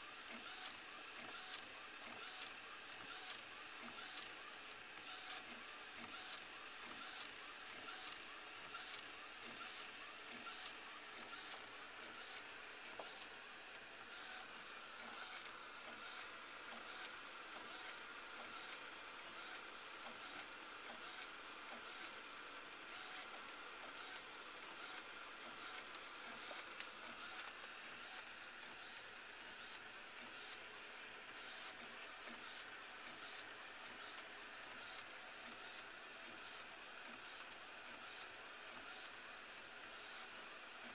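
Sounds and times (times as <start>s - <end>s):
inkjet printer printing: 0.0s - 40.9s.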